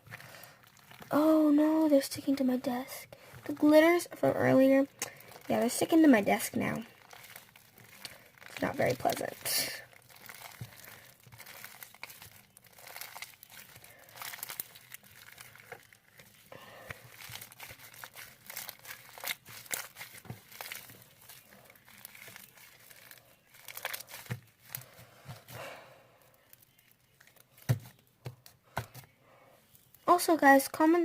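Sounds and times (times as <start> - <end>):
slime crackling and popping: 0.0 - 25.6, 26.3 - 28.0.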